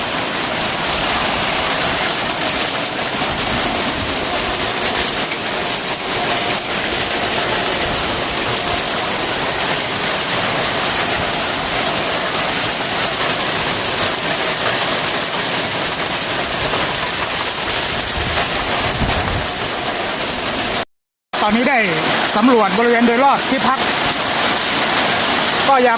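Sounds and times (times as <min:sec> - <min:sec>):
heavy rain on a metal roof: 0:00.0 - 0:25.9.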